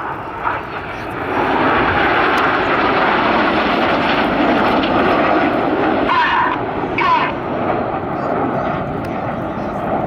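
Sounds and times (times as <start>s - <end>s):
jets roaring overhead: 0.0s - 10.0s.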